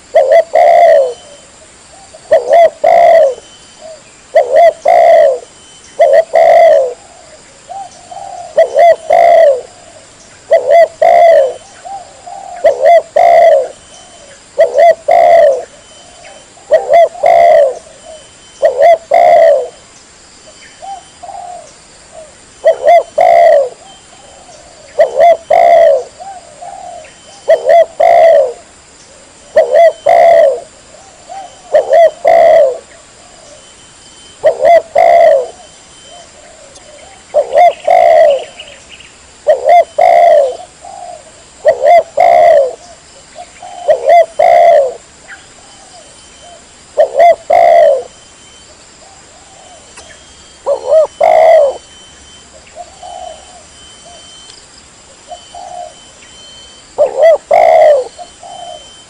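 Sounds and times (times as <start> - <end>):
dove cooing: 0.0 - 19.8, 20.8 - 38.8, 39.4 - 48.2, 49.0 - 54.5, 55.1 - 59.0.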